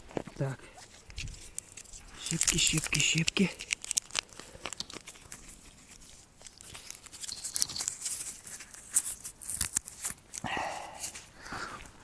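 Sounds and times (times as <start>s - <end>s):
wood chips snapping and crackling: 0.9s - 10.5s.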